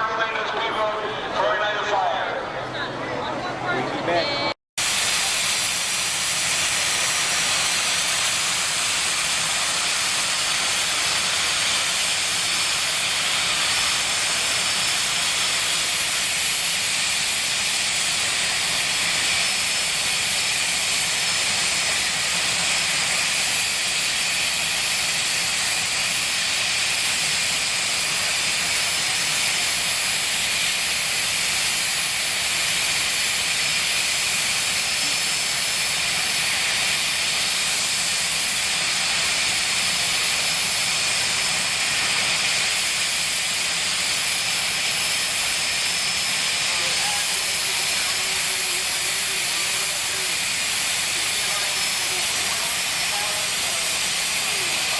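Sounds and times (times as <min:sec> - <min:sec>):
jet engine hiss and whine: 0:00.0 - 0:54.9.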